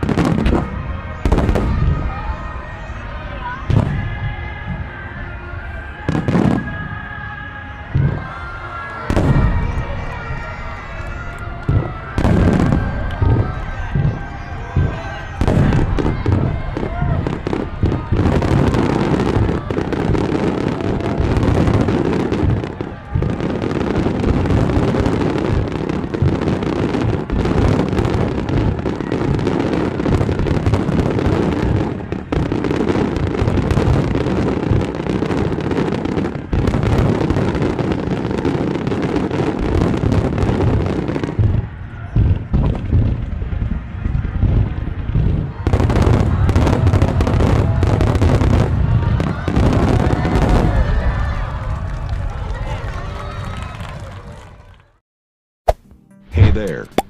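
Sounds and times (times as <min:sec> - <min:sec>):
fireworks bangs and crackling: 0:00.0 - 0:54.8.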